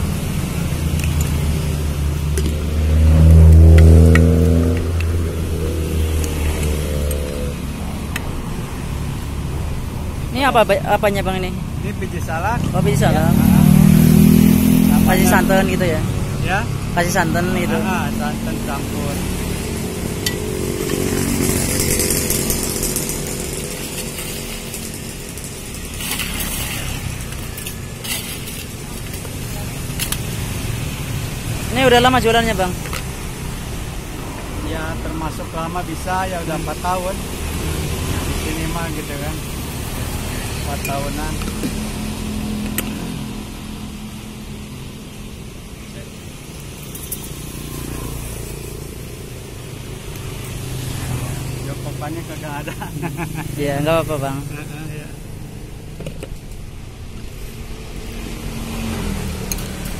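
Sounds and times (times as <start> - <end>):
passing vehicle hum: 0.0 - 59.9
street traffic noise: 0.0 - 59.9.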